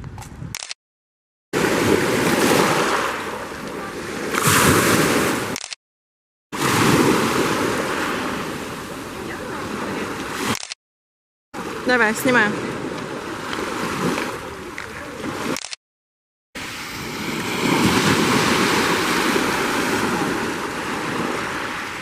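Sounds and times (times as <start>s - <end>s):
waves breaking: 1.6s - 5.7s, 6.6s - 10.8s, 11.6s - 15.7s, 16.6s - 22.0s.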